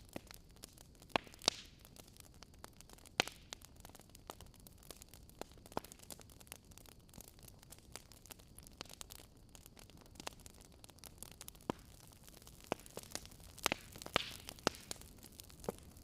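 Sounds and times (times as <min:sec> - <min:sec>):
faint steady hiss: 0:00.0 - 0:16.0
wood fire crackling and popping: 0:00.0 - 0:16.0.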